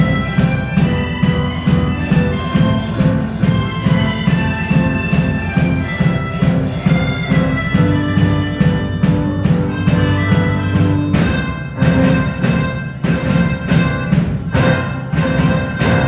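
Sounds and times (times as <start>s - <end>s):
instrumental music with heavy bass: 0.0s - 16.0s.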